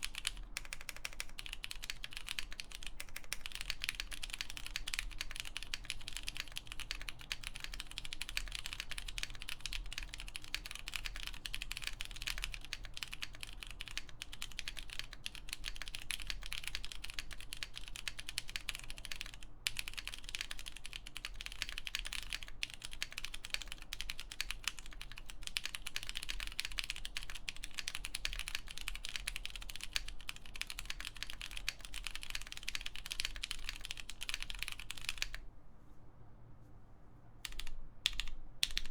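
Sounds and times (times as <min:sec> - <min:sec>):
mechanical keyboard typing: 0:00.0 - 0:35.4, 0:37.4 - 0:38.9.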